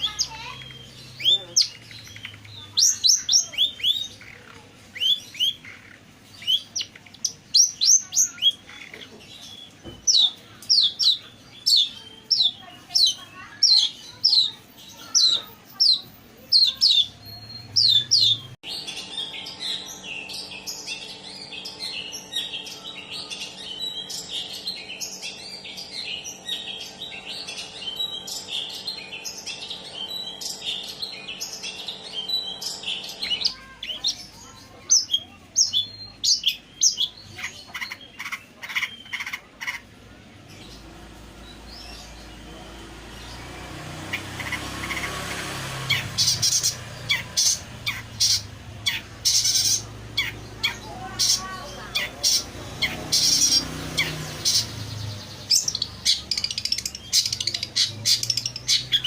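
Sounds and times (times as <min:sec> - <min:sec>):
shrike chattering song: 0:00.0 - 0:59.0.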